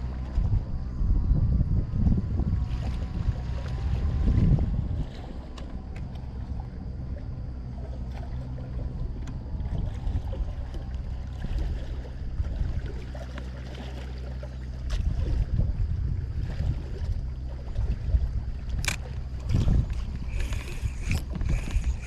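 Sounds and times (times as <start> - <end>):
low motor hum: 0.0 - 22.0
water noise: 0.0 - 22.0
wind: 0.0 - 22.0.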